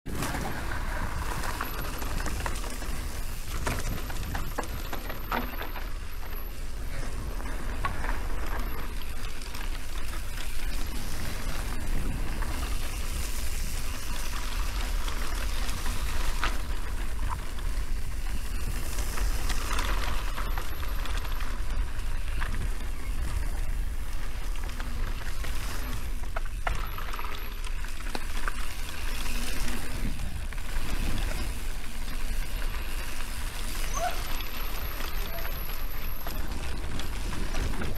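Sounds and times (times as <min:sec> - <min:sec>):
bike clicks and rattles: 0:00.1 - 0:37.9
bike tyre noise: 0:00.1 - 0:37.9.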